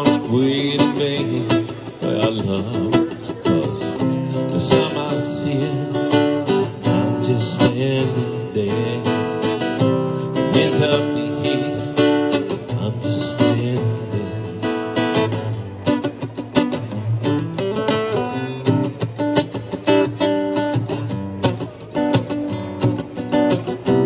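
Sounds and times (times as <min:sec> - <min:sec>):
acoustic guitar strummed and plucked: 0:00.0 - 0:24.0.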